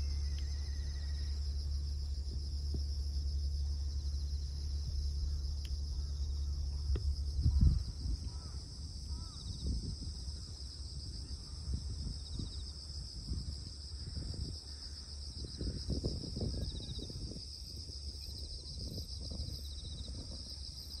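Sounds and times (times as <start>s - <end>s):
low rumble: 0.0s - 20.7s
crickets chirring: 0.0s - 21.0s
insect pulsed trills: 0.0s - 21.0s.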